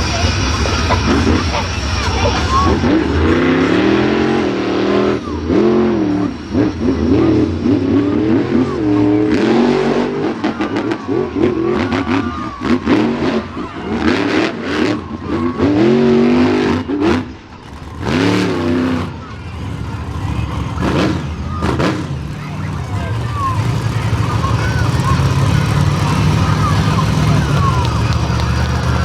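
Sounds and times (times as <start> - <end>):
engine crackles: 0.0 - 29.0
truck engine revving: 0.0 - 29.0.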